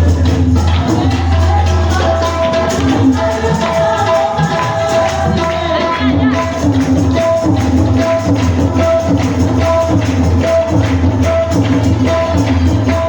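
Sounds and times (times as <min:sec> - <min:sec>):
percussion hits: 0:00.0 - 0:13.0.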